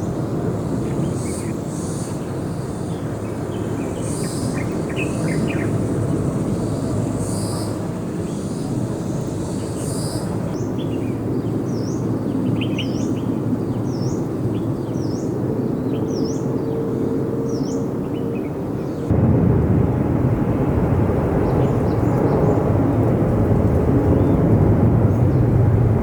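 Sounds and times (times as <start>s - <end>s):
low rumble of distant traffic: 0.0s - 26.0s.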